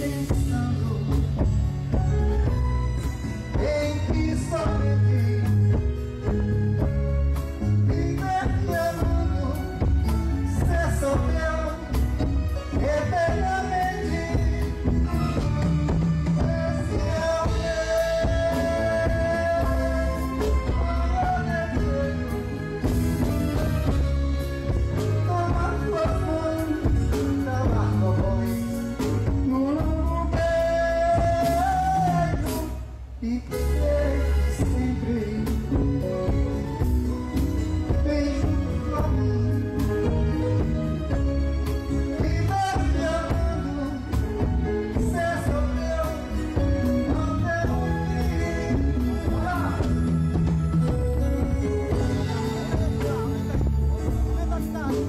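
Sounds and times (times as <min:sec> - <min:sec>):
drum kit: 0:00.0 - 0:55.0
keyboard: 0:00.0 - 0:55.0
person singing: 0:00.0 - 0:55.0.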